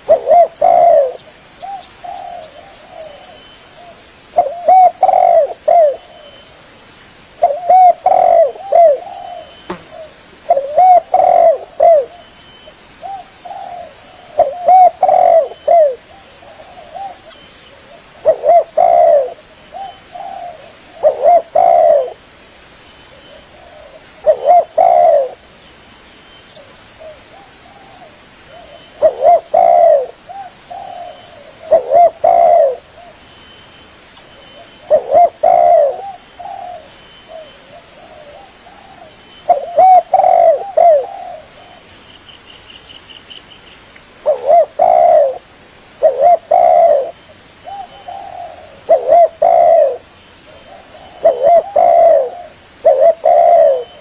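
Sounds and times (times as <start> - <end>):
dove cooing: 0.0 - 6.5, 7.4 - 12.3, 13.0 - 22.2, 23.2 - 25.5, 26.6 - 33.2, 34.4 - 42.0, 44.2 - 54.0.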